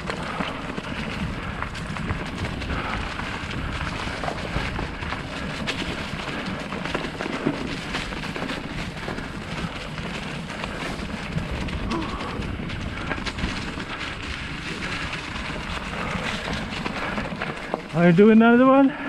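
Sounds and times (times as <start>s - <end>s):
wind noise on microphone: 0.0s - 18.2s
bike tyres crunching on dirt: 0.0s - 19.0s.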